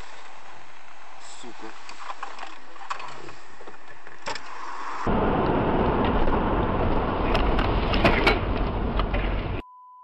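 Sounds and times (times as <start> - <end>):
car road and cabin noise: 0.0 - 9.6.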